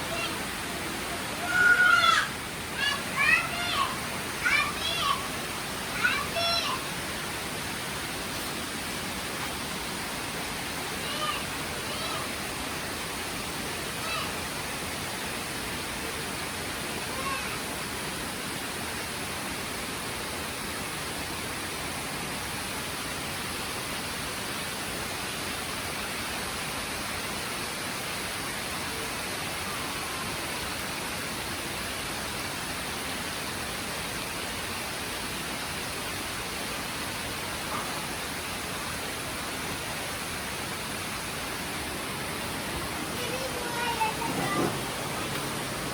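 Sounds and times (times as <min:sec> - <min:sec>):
rain falling in a forest: 0:00.0 - 0:45.9.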